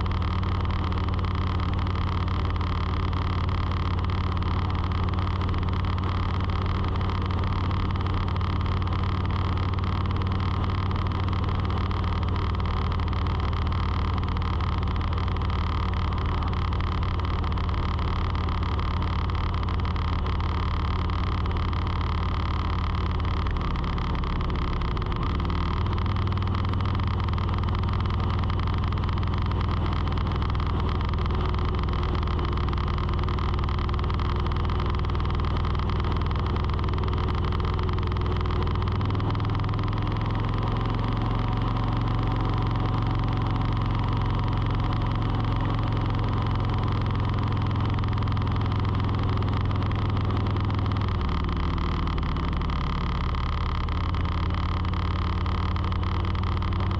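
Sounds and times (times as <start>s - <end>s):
motor hum: 0.0s - 56.9s.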